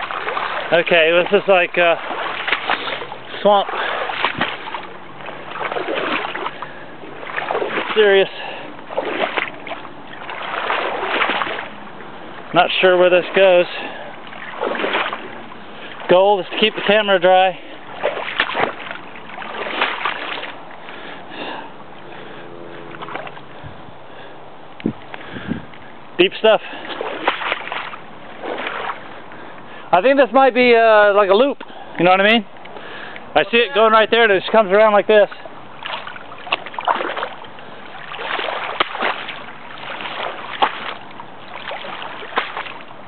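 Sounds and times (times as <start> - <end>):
bike tyres splashing through water: 0.0 - 24.3, 26.2 - 43.0.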